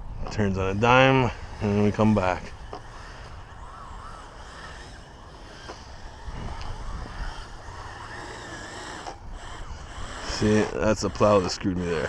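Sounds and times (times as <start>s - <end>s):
electric motor whining: 0.0s - 12.0s
wind rumbling on microphone: 0.0s - 12.0s.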